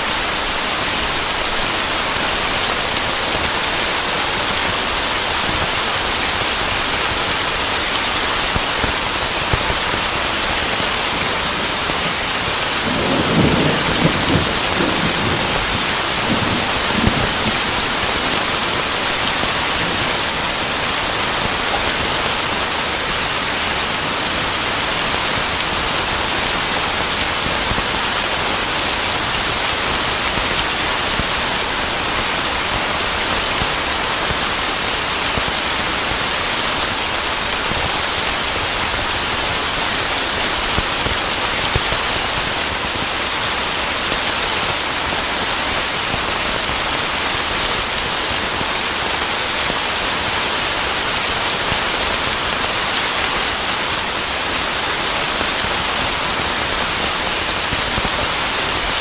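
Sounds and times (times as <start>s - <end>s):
heavy rain falling on a surface: 0.0s - 59.0s.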